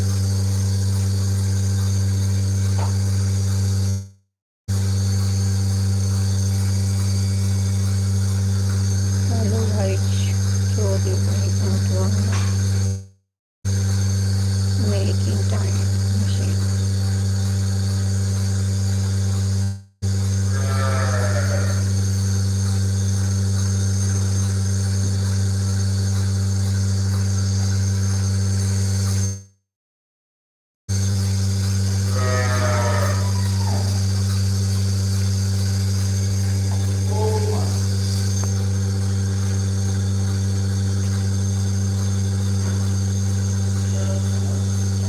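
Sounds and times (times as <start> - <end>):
vacuum pump motor humming: 0.0 - 4.0, 4.7 - 13.0, 13.7 - 29.3, 30.9 - 45.0.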